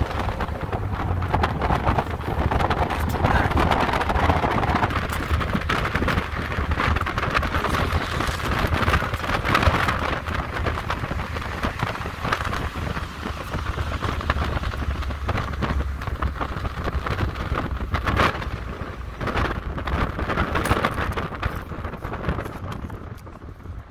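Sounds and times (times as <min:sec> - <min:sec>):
low vehicle rumble: 0:00.0 - 0:23.9
wind buffeting the microphone: 0:00.0 - 0:23.9.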